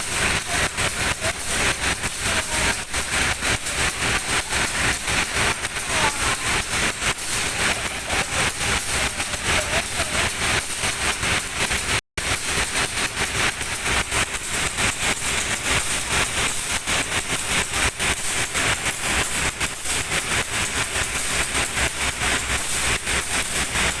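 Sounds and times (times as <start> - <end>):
train clicks and rattles: 0.0 - 24.0.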